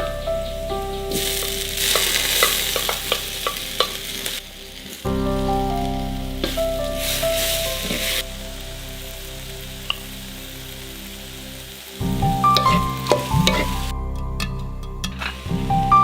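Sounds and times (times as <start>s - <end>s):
food sizzling in hot oil: 1.0s - 16.0s.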